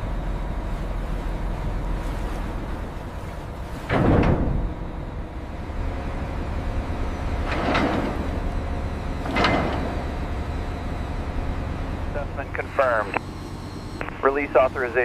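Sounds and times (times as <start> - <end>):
heavy machinery rumble: 0.0 - 15.0.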